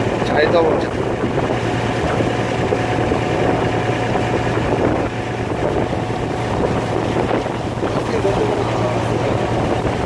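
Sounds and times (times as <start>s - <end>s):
boat engine humming: 0.0s - 10.0s
wind buffeting microphone: 0.0s - 10.0s.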